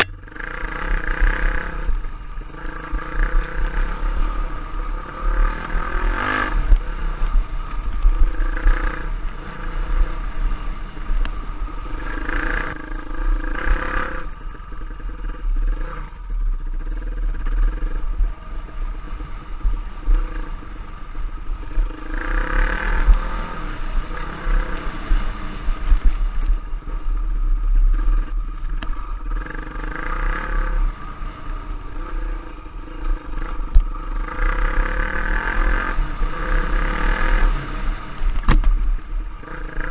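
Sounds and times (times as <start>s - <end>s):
motorbike engine revving: 0.0s - 26.3s, 27.4s - 39.9s.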